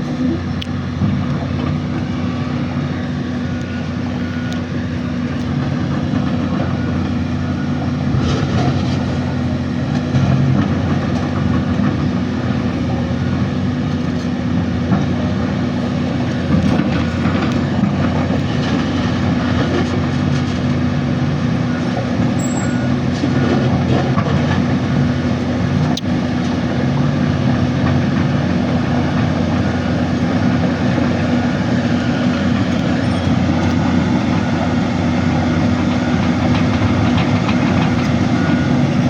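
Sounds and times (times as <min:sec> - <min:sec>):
heavy machinery diesel engine: 0:00.0 - 0:39.0.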